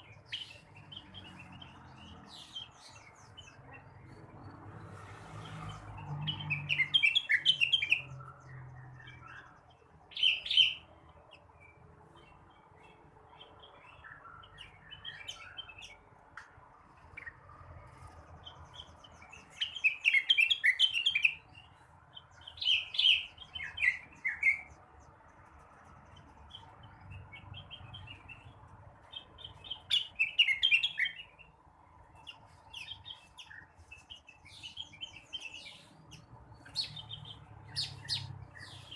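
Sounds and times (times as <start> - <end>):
soft bird twittering: 0.0 - 16.1, 16.9 - 38.9
bird rapid chirping song: 0.0 - 38.9.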